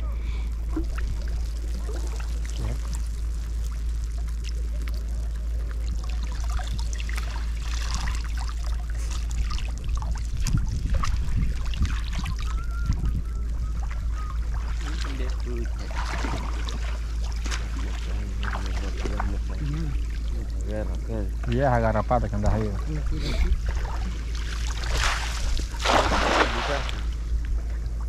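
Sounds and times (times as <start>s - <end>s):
water splashing and trickling: 0.4s - 28.0s.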